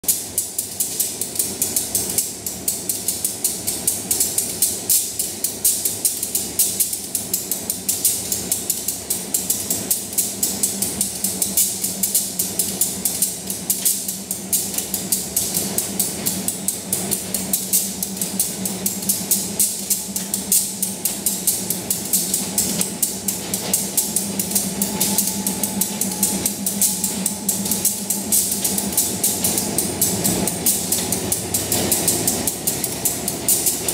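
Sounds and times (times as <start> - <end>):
rapid regular ticking: 0.1 - 33.9.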